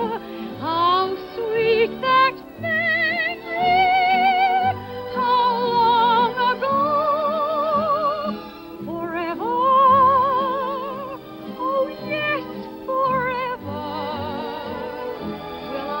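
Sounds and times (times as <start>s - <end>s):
woman singing with vibrato: 0.0s - 16.0s.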